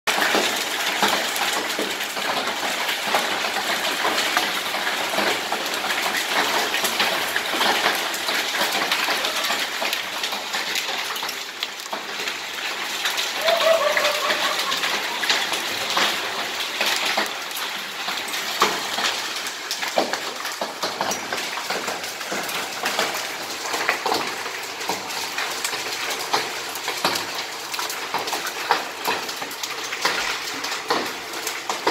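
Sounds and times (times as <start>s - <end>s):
hail and rain pelting concrete: 0.1s - 31.9s.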